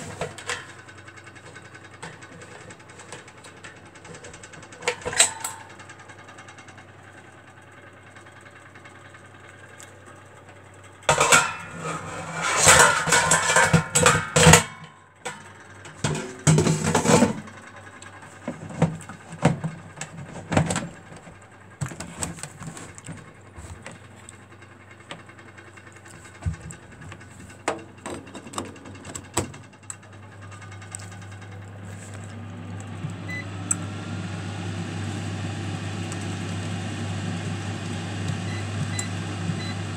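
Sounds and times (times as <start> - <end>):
air fryer basket clattering: 0.0 - 6.8, 11.0 - 39.9
air fryer fan humming: 0.0 - 39.9.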